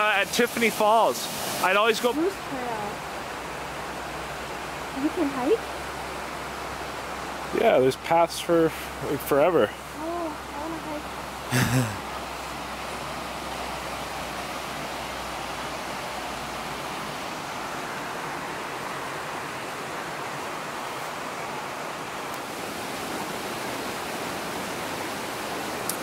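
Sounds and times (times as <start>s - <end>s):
creek rushing over rocks: 0.0s - 26.0s.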